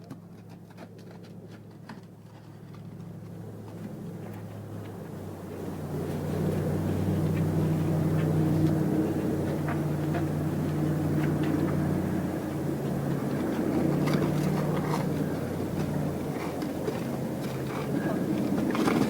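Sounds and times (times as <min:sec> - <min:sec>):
motor humming: 0:02.9 - 0:19.0.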